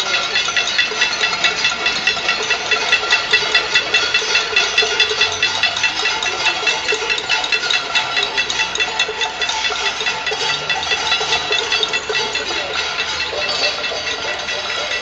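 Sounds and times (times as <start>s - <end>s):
people banging pots and pans: 0.0s - 15.0s.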